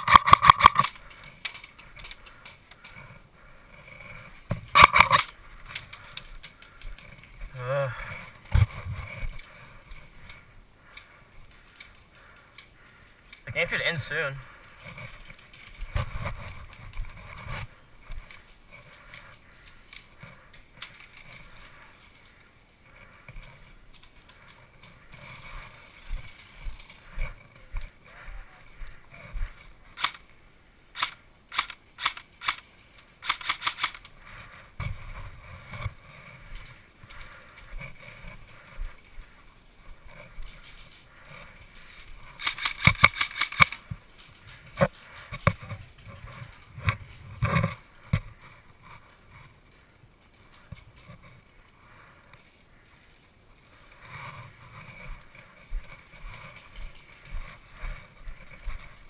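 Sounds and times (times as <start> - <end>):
gear rustling and knocking: 0.0 - 13.5, 14.4 - 28.0, 31.0 - 51.6.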